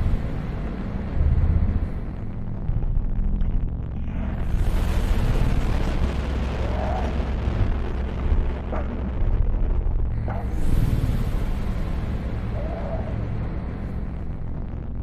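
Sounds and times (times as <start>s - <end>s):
distorted drone music: 0.0s - 15.0s.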